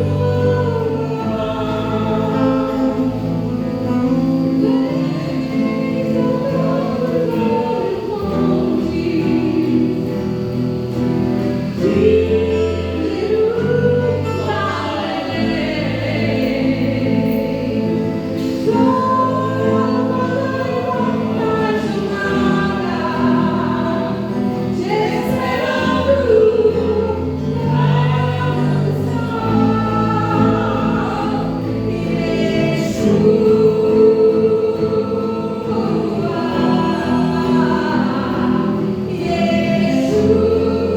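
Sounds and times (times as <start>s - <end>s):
choir singing: 0.0s - 40.9s
sustained chords and bass: 0.0s - 40.9s.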